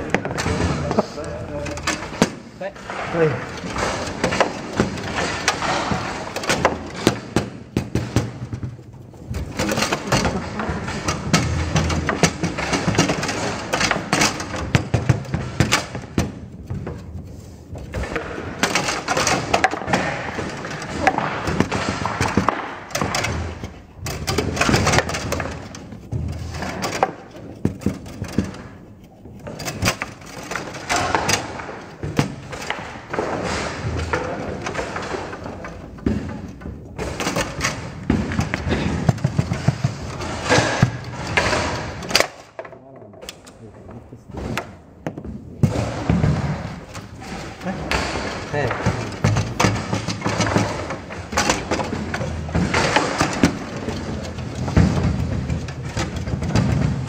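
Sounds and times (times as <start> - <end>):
foosball ball cracking: 0.0 - 42.8, 44.3 - 57.0
foosball rods clacking: 0.0 - 57.0.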